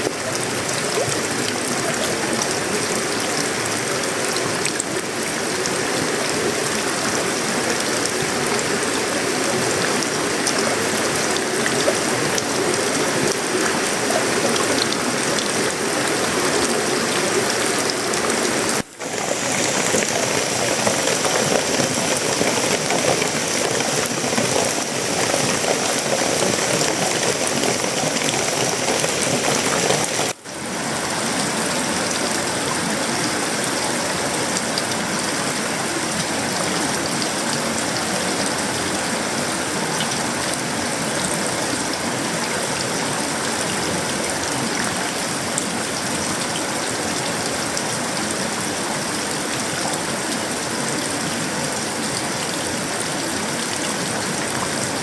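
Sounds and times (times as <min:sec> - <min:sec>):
heavy rain on metal roofing: 0:00.0 - 0:55.0.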